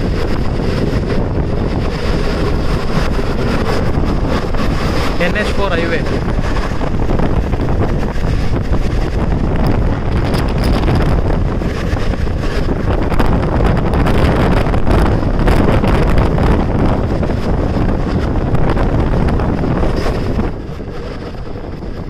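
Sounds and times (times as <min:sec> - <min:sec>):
train wheels rumbling and clattering: 0:00.0 - 0:22.0
wind buffeting microphone: 0:00.0 - 0:22.0.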